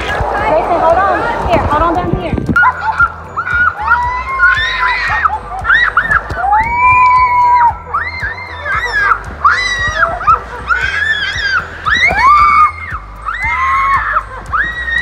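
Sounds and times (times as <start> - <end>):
upbeat music with bass: 0.0 - 15.0.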